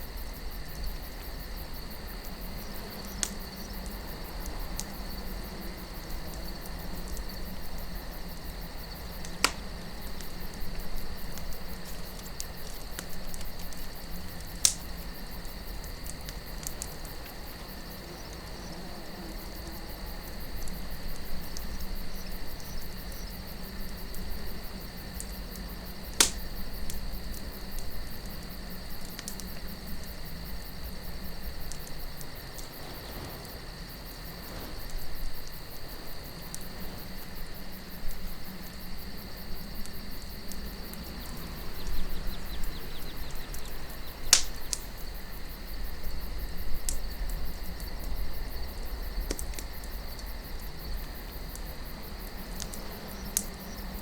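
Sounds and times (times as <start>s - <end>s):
insect trill: 0.0s - 54.0s
campfire crackling and popping: 0.1s - 54.0s.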